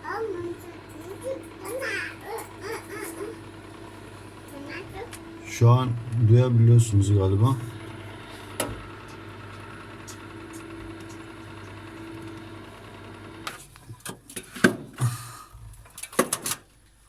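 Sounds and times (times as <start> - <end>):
freezer fan humming: 0.0 - 16.8.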